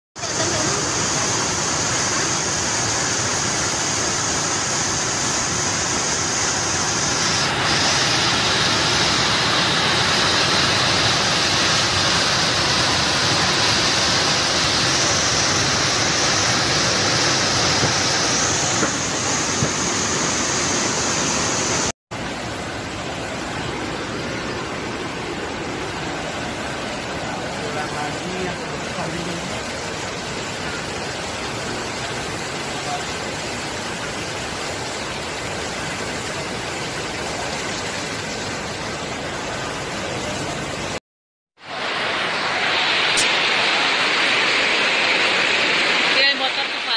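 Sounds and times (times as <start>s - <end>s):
floodwater rushing: 0.2s - 41.0s, 41.6s - 46.9s.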